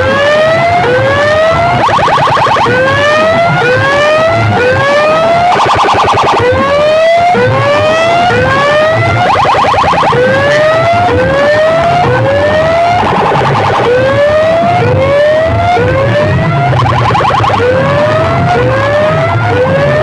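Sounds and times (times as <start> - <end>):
rising siren whoop: 0.0 - 20.0
fast warbling tone: 1.7 - 18.4.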